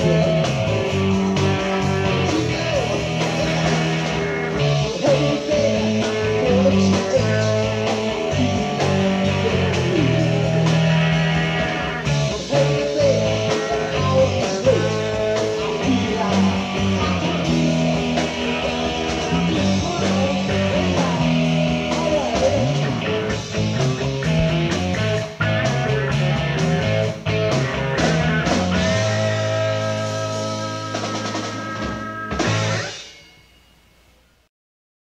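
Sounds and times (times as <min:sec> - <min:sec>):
electric bass: 0:00.0 - 0:33.0
drums: 0:00.0 - 0:34.5
electric guitar lines: 0:00.0 - 0:34.5.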